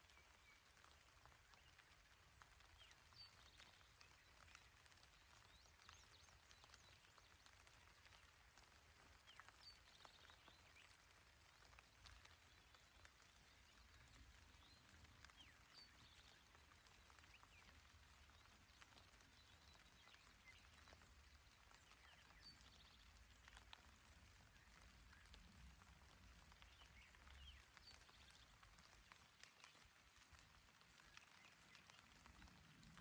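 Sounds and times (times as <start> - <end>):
gentle rain falling on grass: 0.0 - 33.0.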